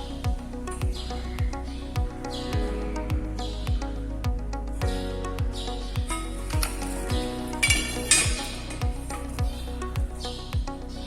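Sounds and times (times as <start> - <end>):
background music with drum beat: 0.3 - 10.7.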